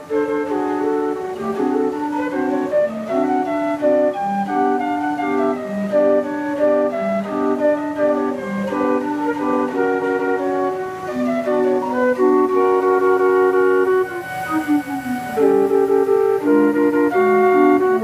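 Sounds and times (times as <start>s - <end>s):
pipe organ playing a tune: 0.0s - 18.0s.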